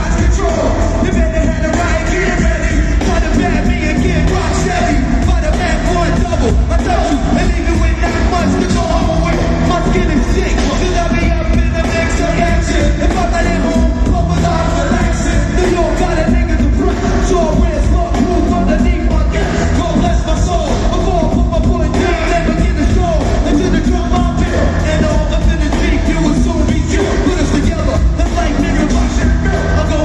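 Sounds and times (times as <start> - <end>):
booming bass beat: 0.0 - 30.0
rapped vocals: 0.0 - 30.0.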